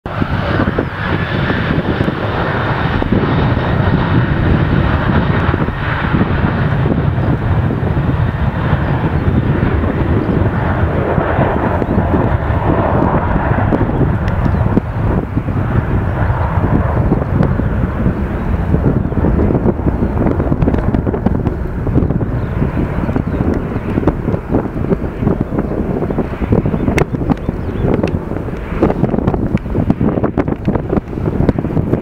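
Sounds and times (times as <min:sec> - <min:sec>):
jet engines at takeoff thrust: 0:00.0 - 0:32.0.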